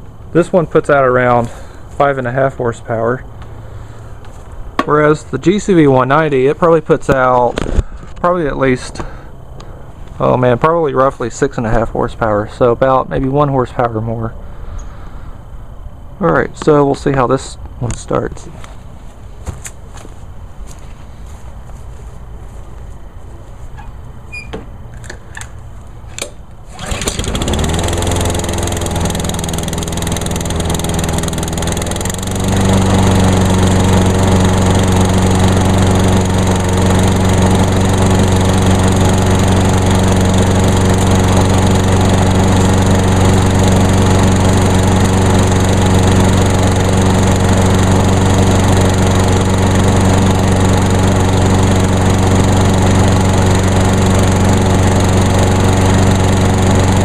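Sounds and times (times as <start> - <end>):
lawn mower engine running: 0.0 - 10.7, 19.4 - 57.0.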